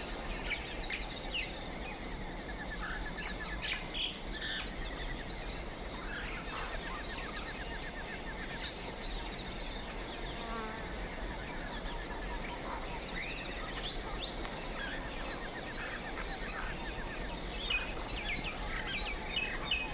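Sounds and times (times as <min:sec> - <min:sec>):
insects trilling: 0:00.0 - 0:19.9
steady background hiss: 0:00.0 - 0:19.9.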